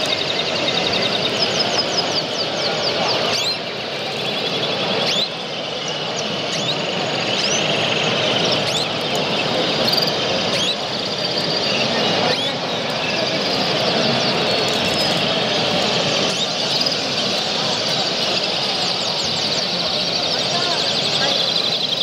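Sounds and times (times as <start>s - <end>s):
canaries chirping: 0.0s - 22.0s
hubbub of many voices: 0.0s - 22.0s.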